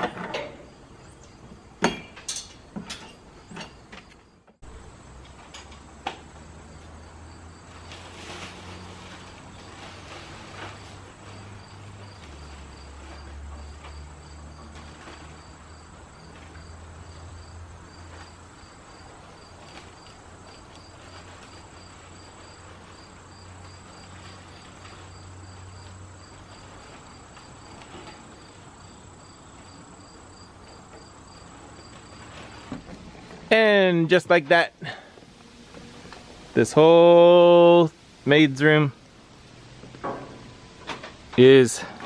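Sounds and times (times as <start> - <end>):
insects chirping: 0.6 - 38.3.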